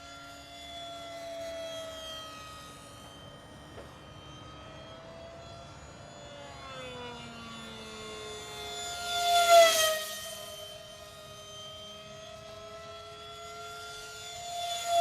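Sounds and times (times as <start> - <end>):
model jet whining in flight: 0.0 - 15.0.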